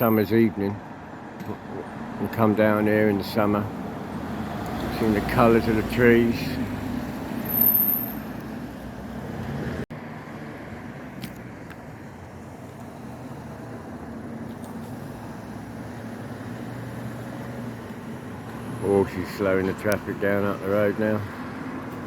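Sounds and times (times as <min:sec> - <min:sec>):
car engines on road: 0:00.0 - 0:22.0.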